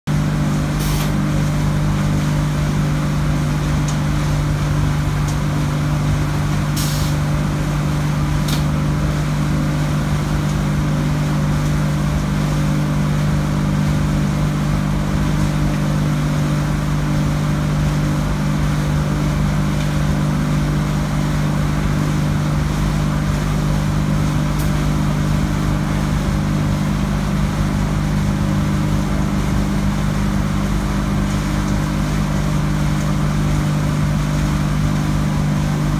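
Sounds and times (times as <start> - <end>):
motors and conveyors humming: 0.1 - 35.9.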